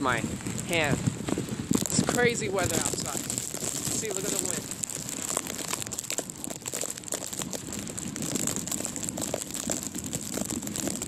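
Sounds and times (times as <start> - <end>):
gusty wind: 0.0 - 11.0
plastic bag crinkling: 0.4 - 11.0.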